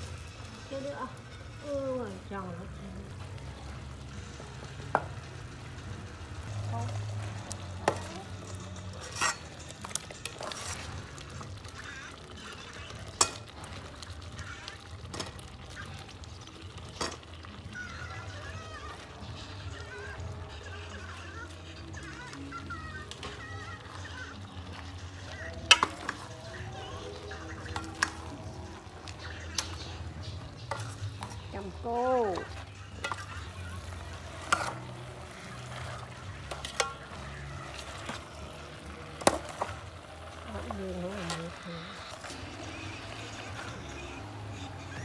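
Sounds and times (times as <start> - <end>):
utensil stirring in a pot: 0.0 - 45.0.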